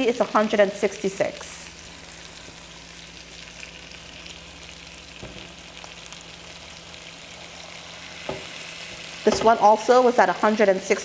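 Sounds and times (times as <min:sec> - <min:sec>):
chicken sizzling in a skillet: 0:00.0 - 0:11.0.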